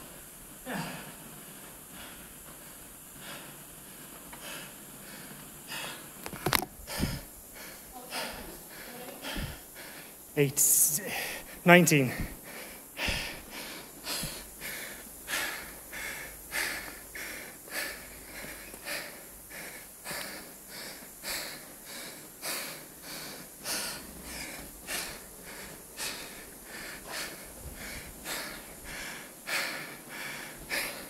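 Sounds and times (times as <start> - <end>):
heavy rhythmic breathing: 0.0 - 31.0.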